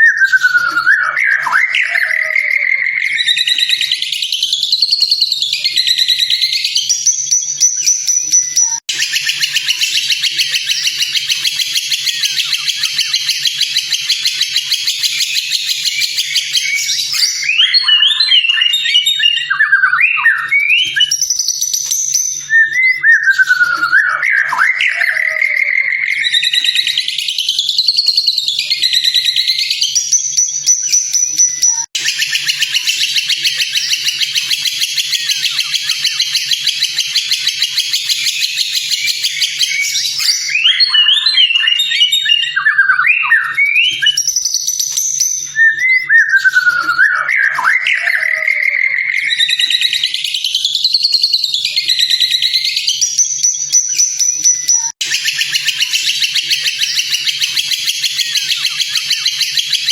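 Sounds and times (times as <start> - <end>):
recorded songbird song: 0.0 - 59.9.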